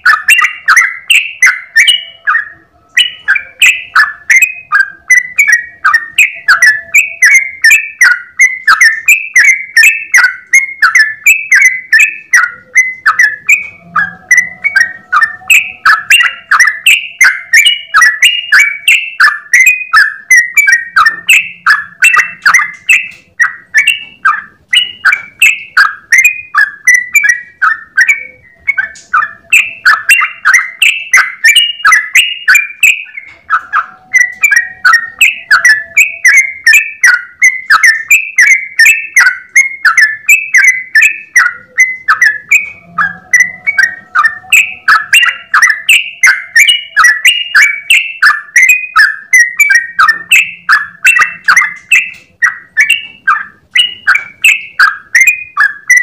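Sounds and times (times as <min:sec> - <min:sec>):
bulbul singing rapid notes: 0:00.0 - 0:56.0.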